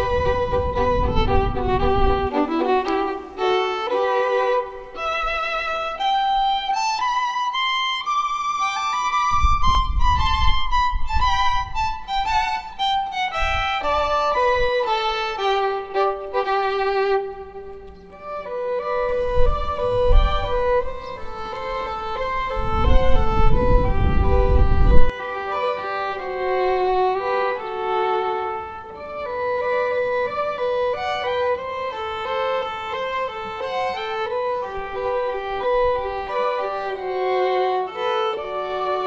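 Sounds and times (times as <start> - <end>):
violin melody: 0.0 - 39.0.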